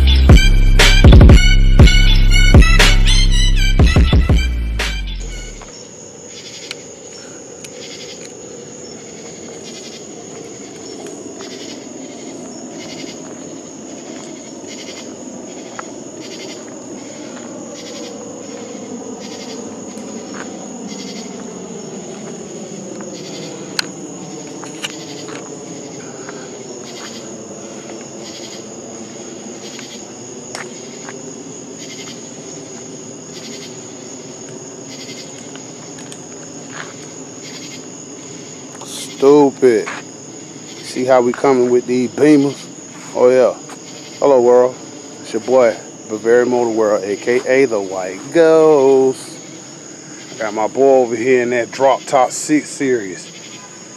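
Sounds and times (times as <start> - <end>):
insects chirping: 0.0 - 53.9.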